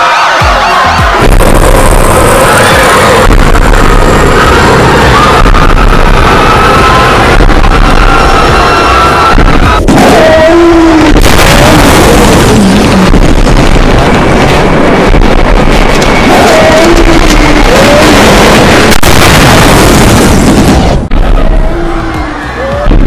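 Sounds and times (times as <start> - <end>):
wavering wails: 0.0 - 13.1, 16.0 - 20.0, 21.2 - 23.0
music: 0.0 - 23.0
cinematic rumble: 1.2 - 23.0.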